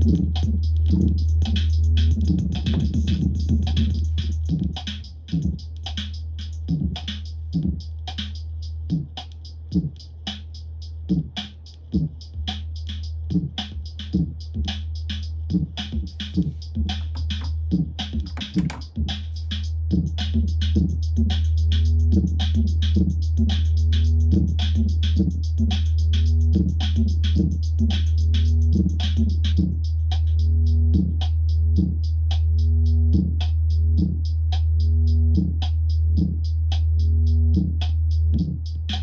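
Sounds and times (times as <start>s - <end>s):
high hi-hat-like ticks: 0.0s - 39.0s.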